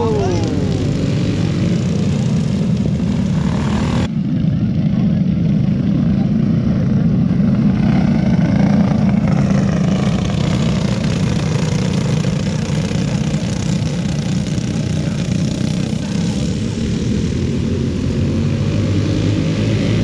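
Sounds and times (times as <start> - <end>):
go-kart engines buzzing: 0.0 - 20.0.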